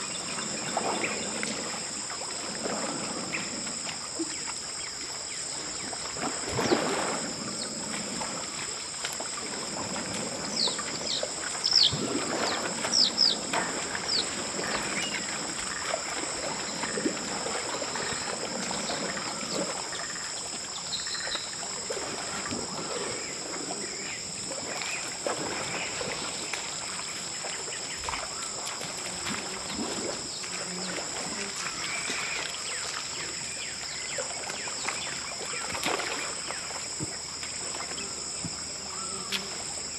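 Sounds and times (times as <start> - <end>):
elephants splashing in mud: 0.0 - 39.9
high insect drone: 0.0 - 39.9.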